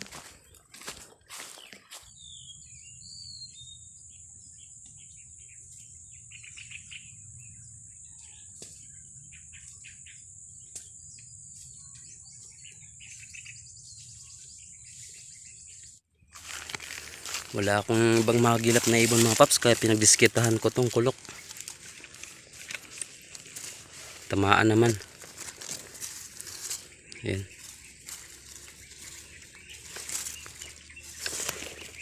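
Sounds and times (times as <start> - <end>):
small birds chirping: 0.1 - 32.0.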